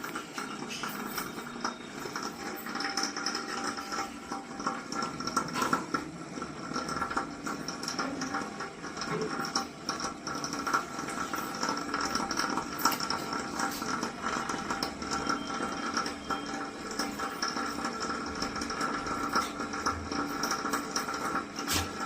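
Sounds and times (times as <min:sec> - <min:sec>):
thin steady tone: 0:00.0 - 0:21.4
water heater crackling: 0:00.0 - 0:22.0.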